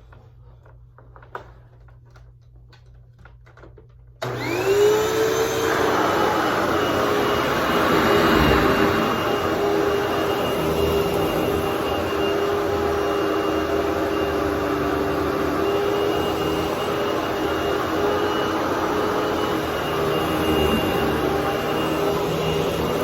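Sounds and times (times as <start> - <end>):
vacuum cleaner running: 4.2 - 23.0.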